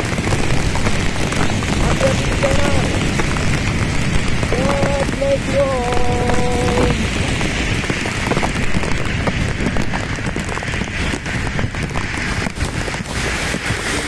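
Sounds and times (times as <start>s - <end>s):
heavy rain hiss: 0.0s - 14.0s
low rumble of wet road travel: 0.0s - 14.0s.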